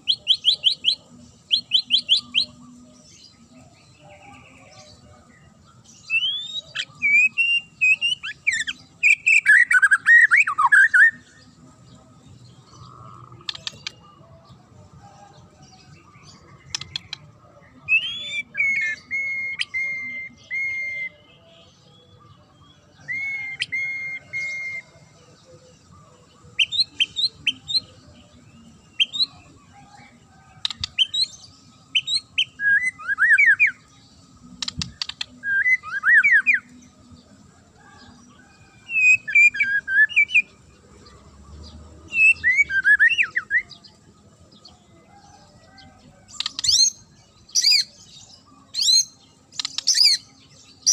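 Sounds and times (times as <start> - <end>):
songbird singing varied phrases: 0.0 - 50.9.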